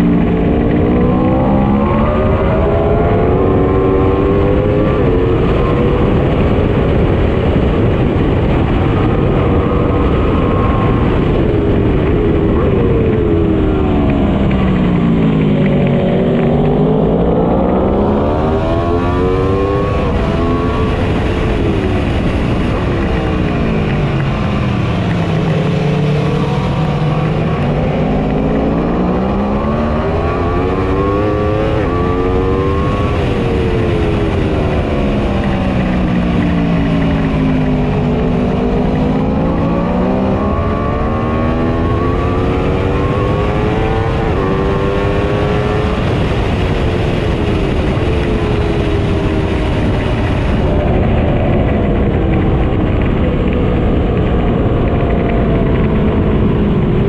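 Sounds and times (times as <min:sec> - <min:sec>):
heavy wind noise: 0:00.0 - 0:57.0
motorcycle engine at speed: 0:00.0 - 0:57.0.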